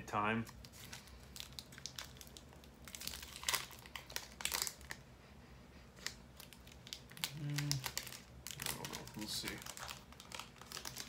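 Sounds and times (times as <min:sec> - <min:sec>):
plastic wrapper crinkling: 0:00.4 - 0:05.0, 0:06.0 - 0:11.0.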